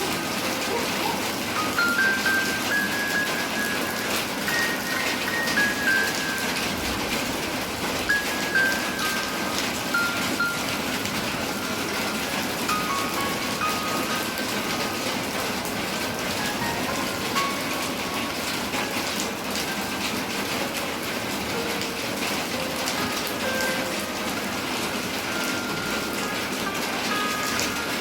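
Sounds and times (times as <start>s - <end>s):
dense rain falling: 0.0s - 28.0s.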